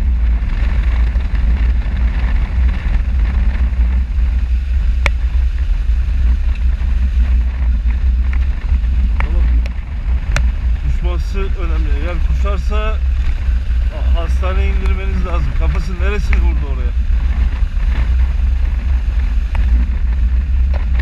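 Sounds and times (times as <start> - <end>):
motorcycle engine: 0.0 - 21.0
wind buffeting microphone: 0.0 - 21.0.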